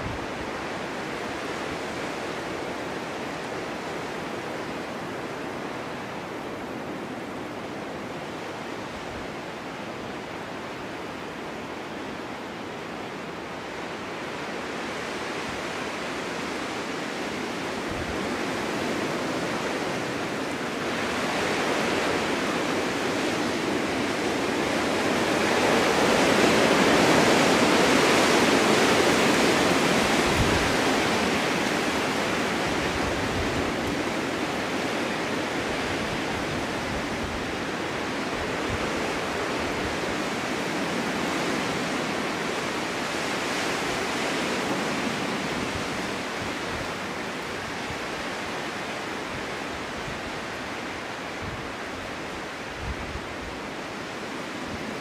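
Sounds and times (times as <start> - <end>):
snowstorm wind blowing: 0.0 - 55.0.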